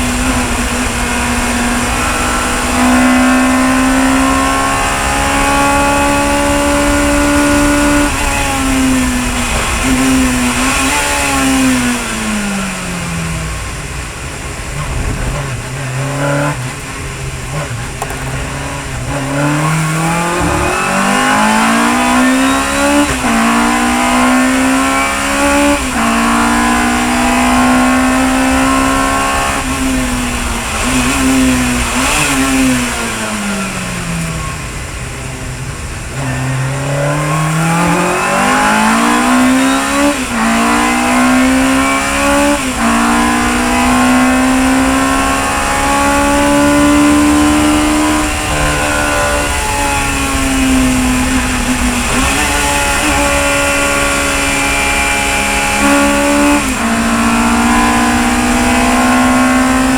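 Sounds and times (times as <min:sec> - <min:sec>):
racing car engine accelerating: 0:00.0 - 0:59.9.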